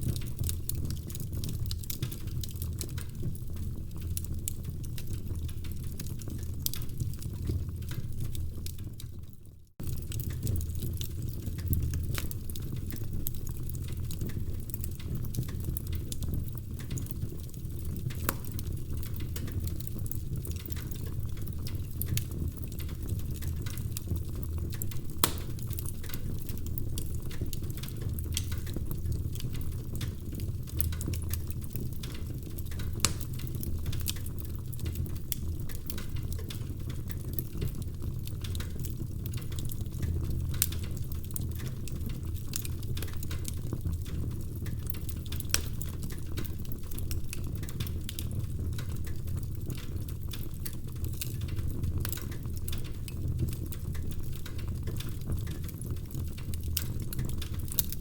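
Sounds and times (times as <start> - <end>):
fire popping and snapping: 0.0 - 58.0
wood fire crackling: 0.0 - 58.0.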